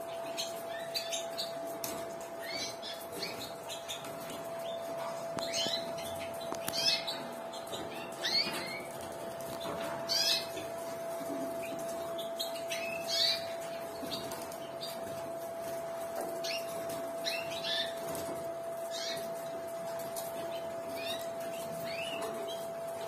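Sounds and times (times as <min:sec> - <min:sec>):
canaries chirping: 0:00.0 - 0:23.0.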